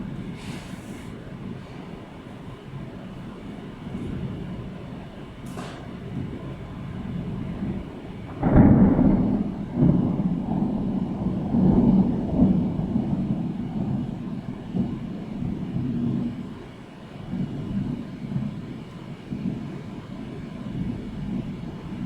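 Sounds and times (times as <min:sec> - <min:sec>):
thunder rumbling: 0:00.0 - 0:22.0
thunder clap: 0:01.2 - 0:22.0.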